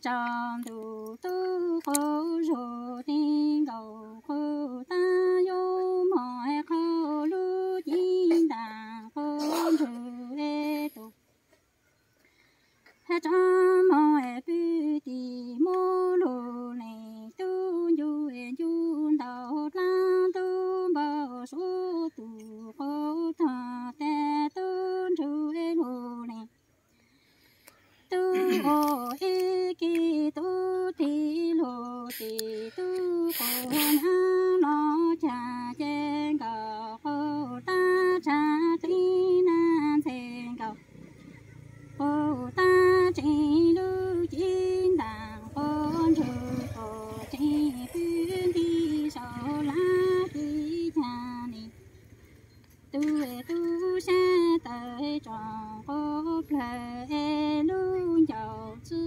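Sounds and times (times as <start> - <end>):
woman singing unaccompanied: 0.0 - 11.2, 12.9 - 26.6, 28.0 - 59.0.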